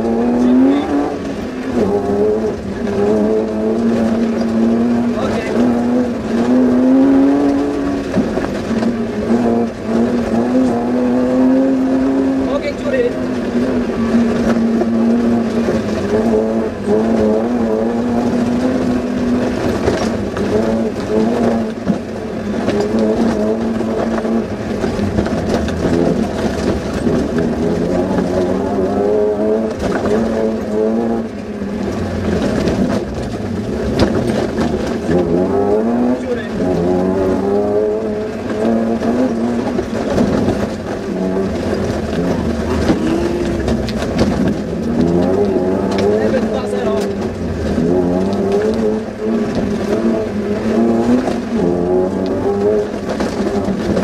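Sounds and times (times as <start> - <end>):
car engine revving: 0.0 - 54.0
car knocking over rough ground: 0.0 - 54.0.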